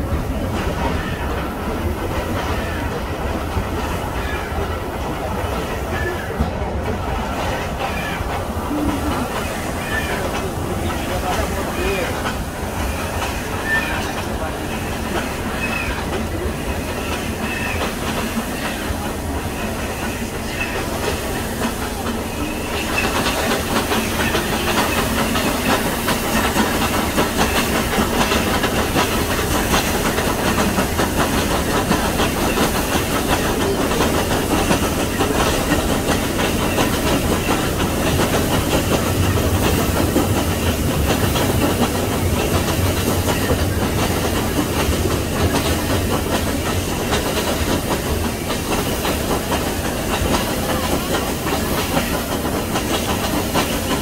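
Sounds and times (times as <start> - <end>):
hiss of steam: 0.0 - 54.0
steam locomotive climbing: 0.0 - 54.0.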